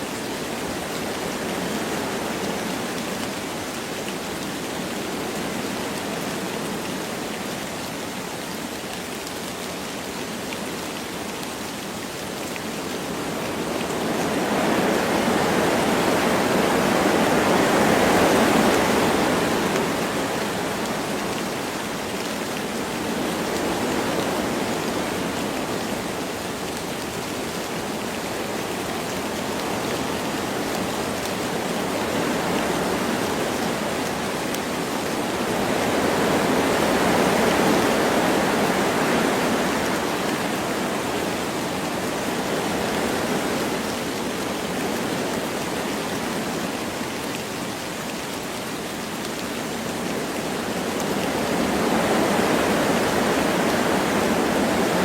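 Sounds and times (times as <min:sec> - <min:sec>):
light rain: 0:00.0 - 0:55.0
wind through forest trees: 0:00.0 - 0:55.0.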